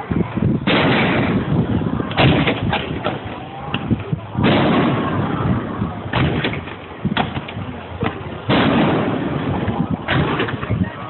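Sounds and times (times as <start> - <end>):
fireworks bangs: 0.6 - 11.0.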